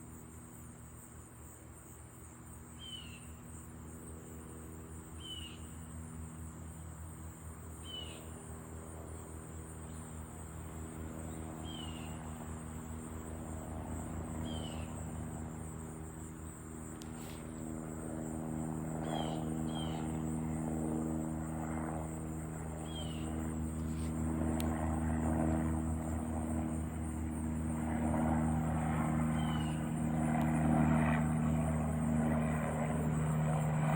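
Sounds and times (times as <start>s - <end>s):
helicopter engine and rotor hum: 2.6s - 33.9s.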